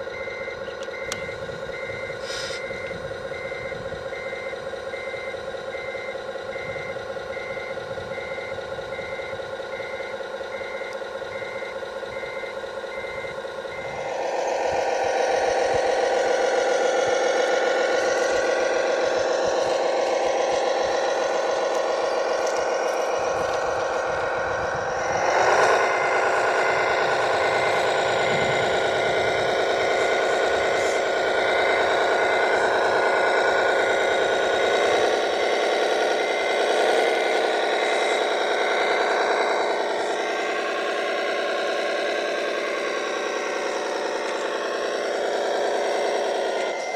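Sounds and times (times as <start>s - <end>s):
reversing alarm beeps: 0.0s - 44.3s
engine hum: 0.0s - 46.9s
engine revving: 0.0s - 46.9s.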